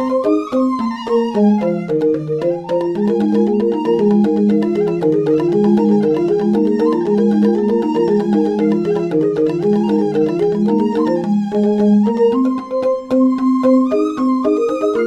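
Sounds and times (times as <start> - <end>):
marimba-like mallet percussion music: 0.0 - 15.0.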